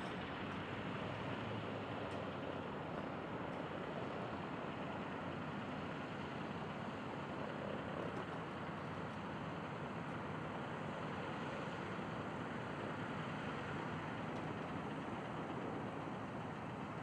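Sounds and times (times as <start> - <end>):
radial aircraft engines running: 0.0 - 17.0.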